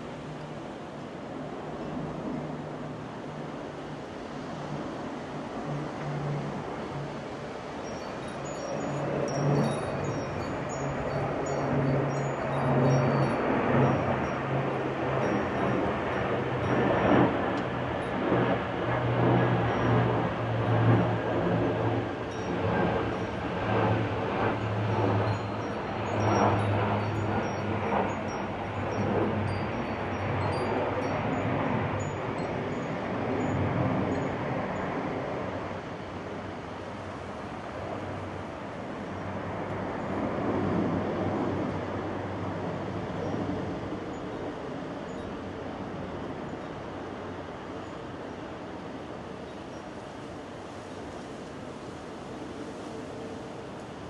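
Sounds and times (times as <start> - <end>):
strong wind gusting on microphone: 0.0 - 54.0.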